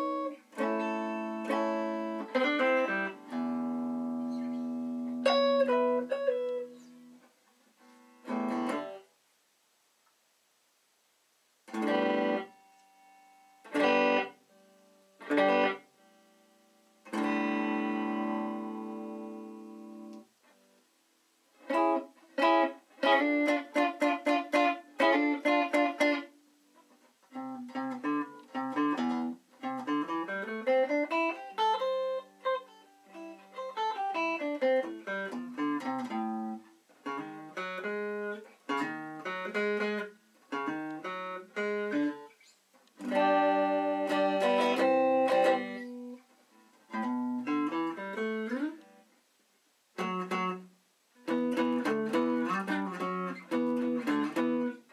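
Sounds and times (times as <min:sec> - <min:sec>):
electric guitar playing: 0:00.0 - 0:09.1, 0:11.6 - 0:20.8, 0:21.6 - 0:49.1, 0:50.0 - 0:54.9.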